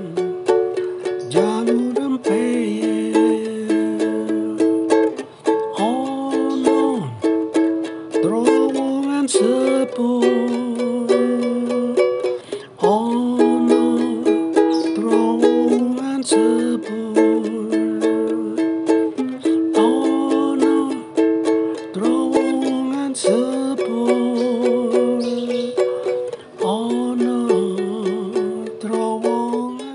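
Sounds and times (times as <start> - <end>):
ukulele strumming and plucking: 0.0 - 29.9.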